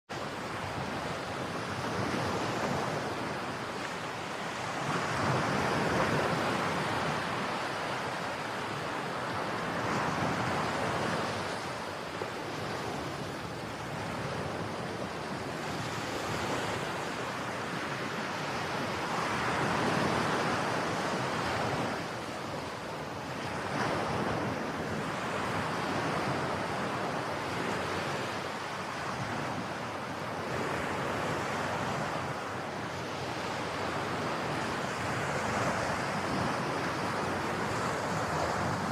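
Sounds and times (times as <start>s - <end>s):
ocean waves breaking: 0.2s - 38.9s
wind on microphone: 0.2s - 38.9s.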